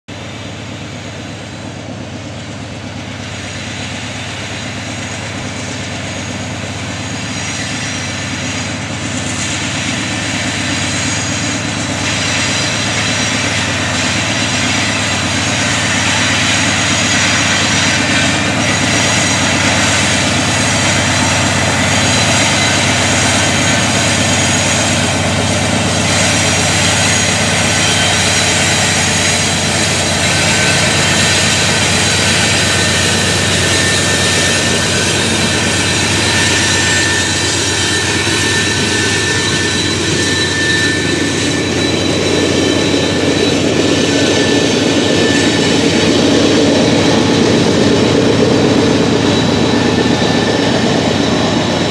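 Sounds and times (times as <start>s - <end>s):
diesel locomotive engines droning: 0.0s - 51.9s.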